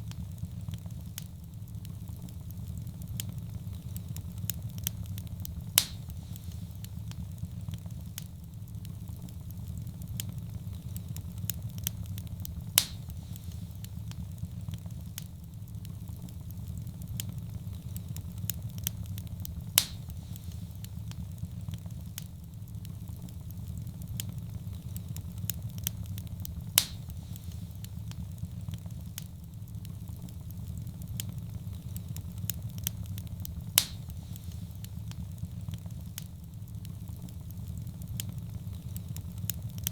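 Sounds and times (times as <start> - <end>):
fire roaring low: 0.0 - 39.9
sharp pops from fire: 0.0 - 39.9
wood fire crackling: 0.0 - 39.9.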